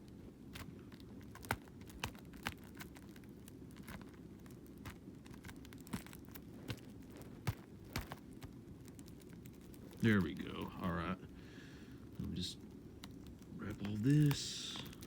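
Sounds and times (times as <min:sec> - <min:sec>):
plastic wrapping crinkling: 0:00.0 - 0:11.0, 0:11.9 - 0:15.0
low steady hum: 0:00.0 - 0:15.0.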